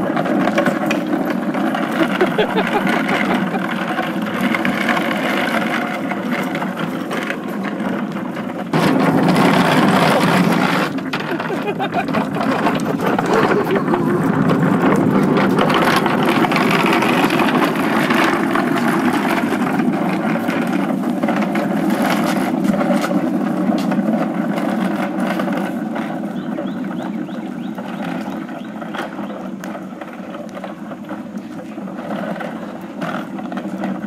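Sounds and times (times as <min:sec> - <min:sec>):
dolly wheels rolling on asphalt: 0:00.0 - 0:34.0.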